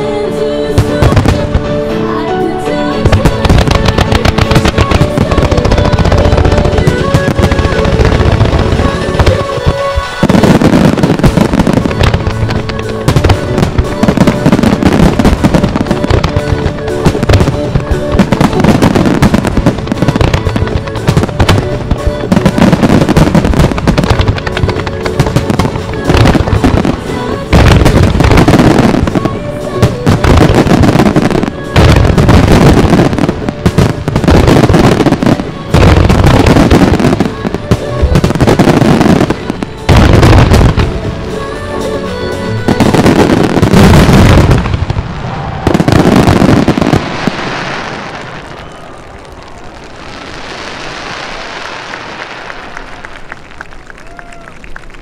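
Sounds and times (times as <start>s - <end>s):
music playing: 0.0s - 48.4s.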